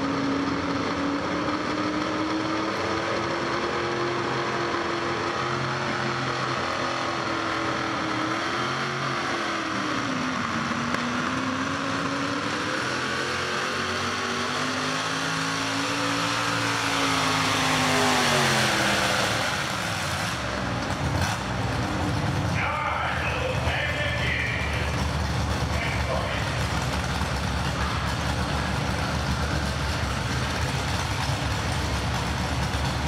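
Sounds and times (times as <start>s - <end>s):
truck engine revving under load: 0.0s - 33.0s.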